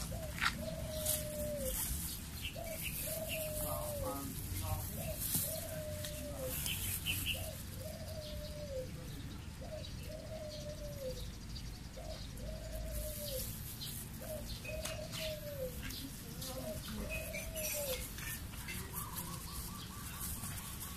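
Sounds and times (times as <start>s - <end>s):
dove cooing: 0.0s - 20.9s.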